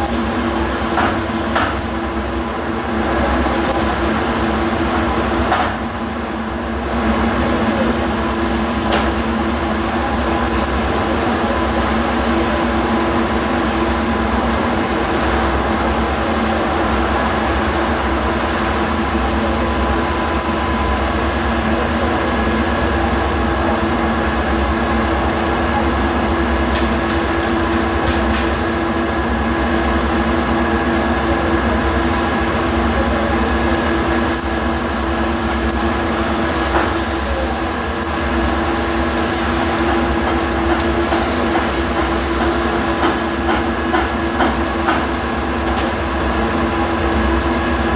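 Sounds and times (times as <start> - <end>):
machinery hum with hiss: 0.0 - 47.9.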